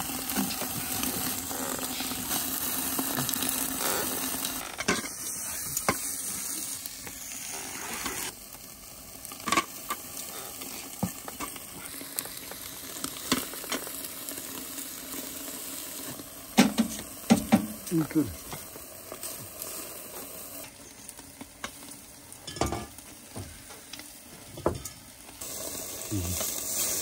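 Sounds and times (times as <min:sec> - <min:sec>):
stones and meat sizzling in pot: 0:00.0 - 0:27.0.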